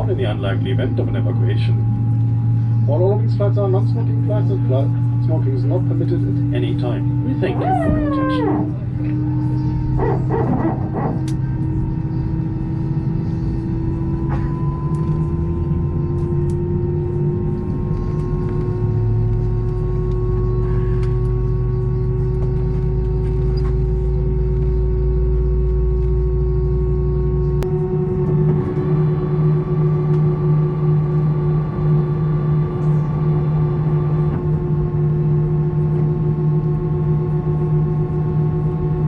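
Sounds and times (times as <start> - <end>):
jet engine hum in cabin: 0.0 - 39.0.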